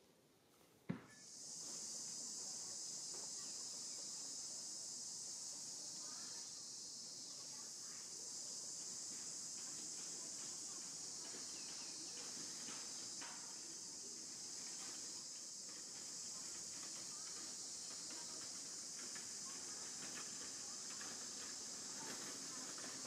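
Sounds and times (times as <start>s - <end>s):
faint ticks and rustles: 0.5s - 23.0s
insects droning in trees: 0.9s - 23.0s.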